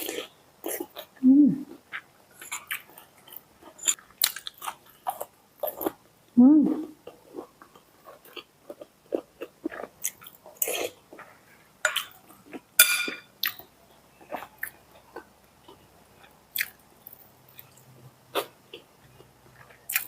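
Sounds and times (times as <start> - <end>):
person chewing food: 0.0 - 6.0, 6.8 - 20.0.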